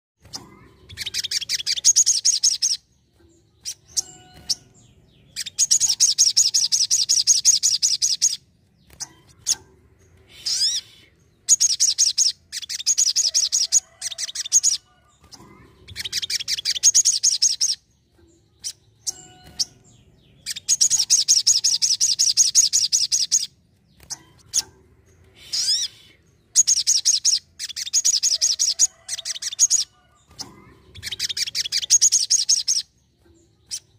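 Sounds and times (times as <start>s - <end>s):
bird singing trilled phrases: 0.2s - 33.9s.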